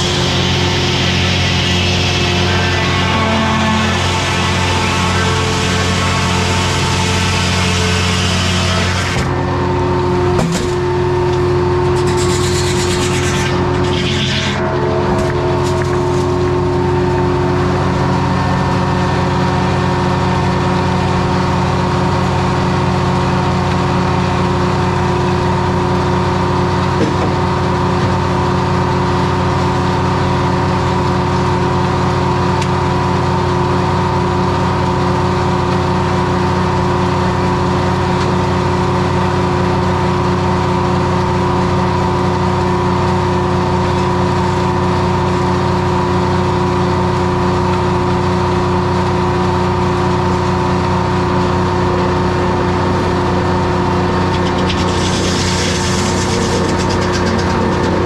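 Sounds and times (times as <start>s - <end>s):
diesel engine running: 3.3s - 58.0s.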